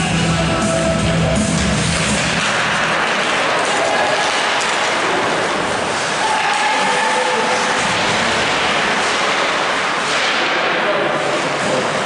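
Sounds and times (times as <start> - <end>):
skating and crowd noise: 0.0 - 12.0.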